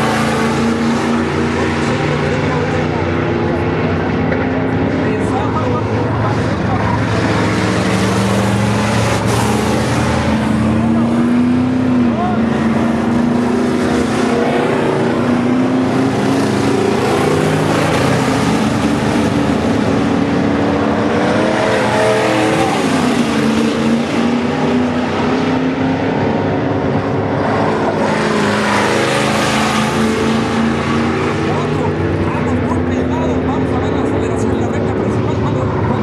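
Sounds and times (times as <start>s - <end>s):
race car engines revving: 0.0s - 36.0s.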